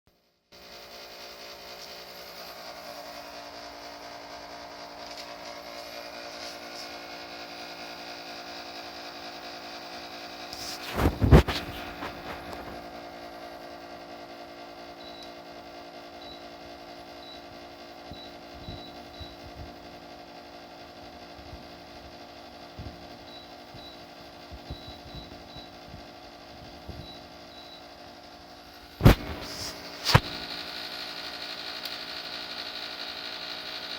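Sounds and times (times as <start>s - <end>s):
dehumidifier buzzing hum: 0.5s - 33.9s.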